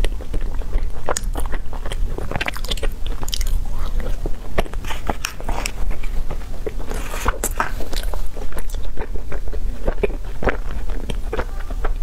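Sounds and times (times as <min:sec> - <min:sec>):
chewing ice cream: 0:00.0 - 0:12.0.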